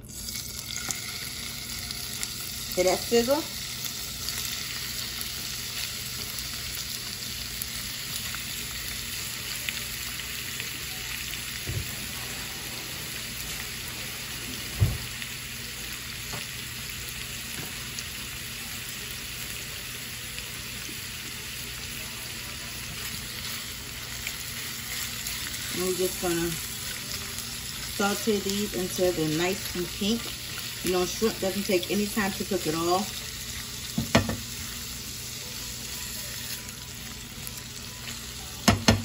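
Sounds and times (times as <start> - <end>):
shrimp sizzling in hot oil: 0.0 - 39.0.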